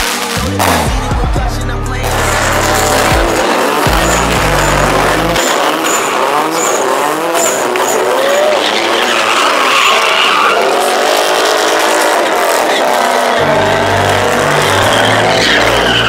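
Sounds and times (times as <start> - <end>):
car engine revving: 0.0 - 16.0
tires squealing on pavement: 2.0 - 16.0.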